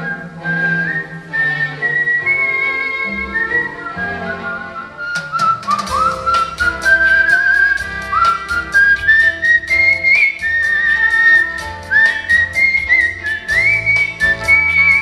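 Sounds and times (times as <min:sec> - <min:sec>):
person whistling a melody: 0:00.0 - 0:15.0
instrumental backing track: 0:01.0 - 0:15.0.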